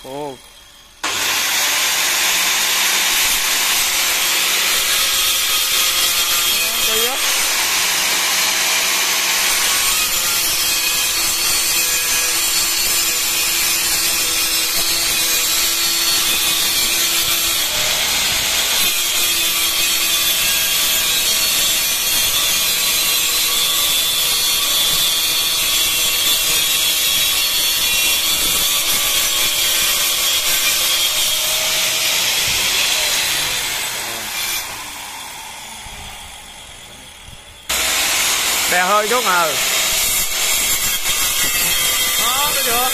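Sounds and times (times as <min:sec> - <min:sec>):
angle grinder cutting tile: 0:01.0 - 0:36.0, 0:37.7 - 0:42.9.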